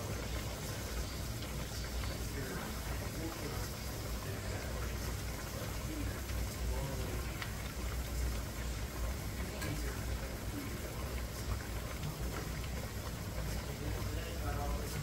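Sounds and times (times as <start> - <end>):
water boiling in pressure canner: 0.0 - 15.0.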